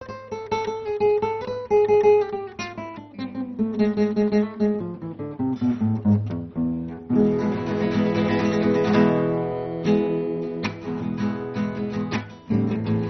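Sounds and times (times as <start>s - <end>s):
fingerpicked acoustic guitar: 0.0s - 13.0s.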